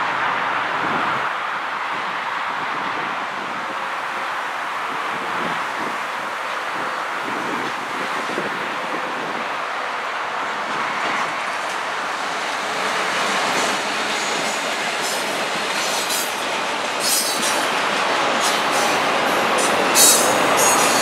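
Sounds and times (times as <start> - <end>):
diesel locomotives passing: 0.0 - 21.0.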